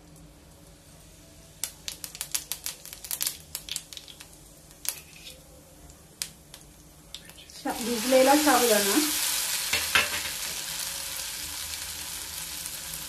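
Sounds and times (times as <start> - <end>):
seeds popping in hot oil: 1.5 - 13.0.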